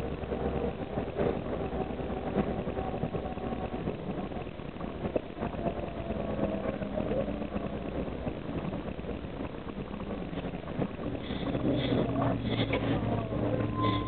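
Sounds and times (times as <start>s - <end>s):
bus engine drone: 0.0s - 14.0s
low steady tone: 0.0s - 14.0s
rattles and clicks from bus body: 0.0s - 14.0s.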